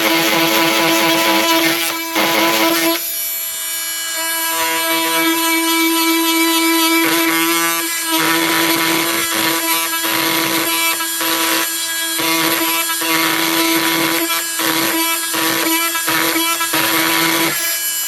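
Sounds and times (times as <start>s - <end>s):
harsh screw grinding noise: 0.0s - 18.0s
multi-tool motor whine: 0.0s - 18.0s.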